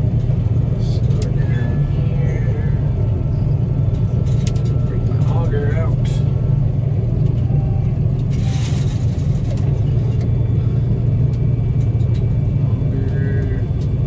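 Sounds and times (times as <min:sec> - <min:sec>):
combine harvester droning: 0:00.0 - 0:14.0.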